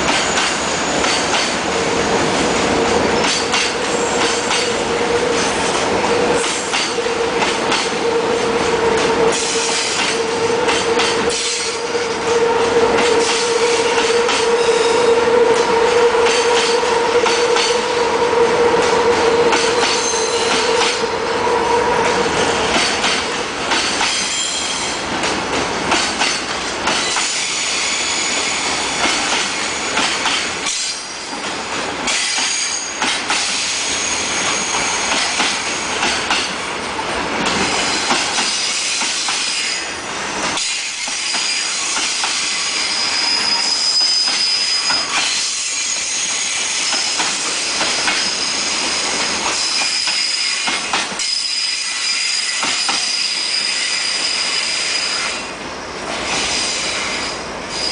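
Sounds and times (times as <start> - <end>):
freight train rolling past: 0.0 - 57.9
train wheels squealing: 3.1 - 5.8, 9.0 - 12.3, 12.9 - 25.0, 26.2 - 31.5, 32.1 - 36.4, 37.6 - 57.9.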